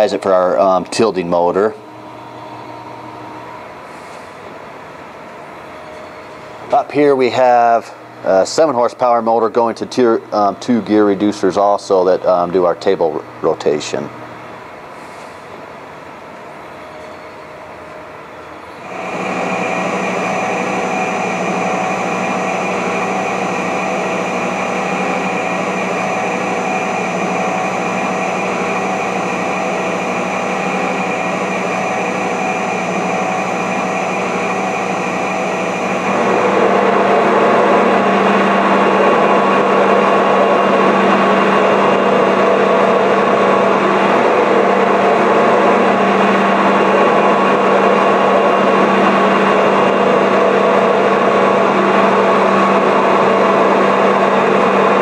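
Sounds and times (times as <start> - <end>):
welding positioner motors droning: 0.0 - 16.8, 17.4 - 55.0.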